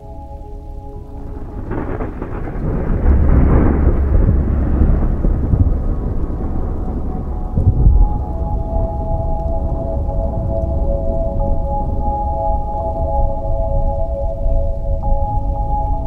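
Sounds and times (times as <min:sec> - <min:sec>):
rain hissing: 0:00.0 - 0:16.0
soft ambient music: 0:00.0 - 0:16.0
rolling thunder: 0:00.3 - 0:16.0.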